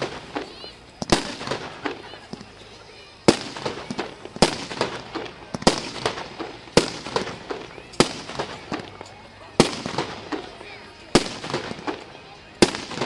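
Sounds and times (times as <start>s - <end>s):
fireworks bangs: 0.0s - 2.6s, 3.2s - 13.0s
fireworks pops and crackles: 0.0s - 13.0s.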